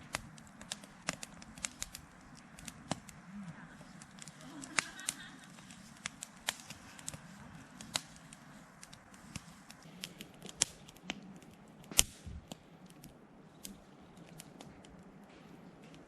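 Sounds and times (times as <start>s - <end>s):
faint steady hiss: 0.0s - 16.0s
wood fire crackling and popping: 0.0s - 16.0s.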